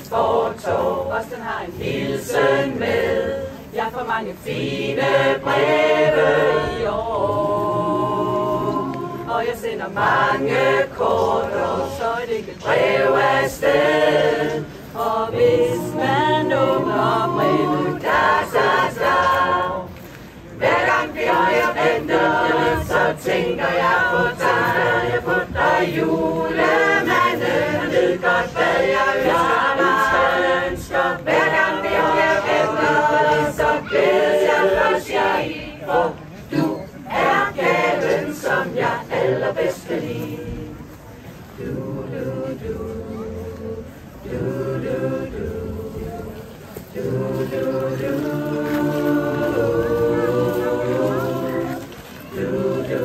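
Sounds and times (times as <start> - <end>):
mixed choir singing a cappella: 0.0 - 53.0.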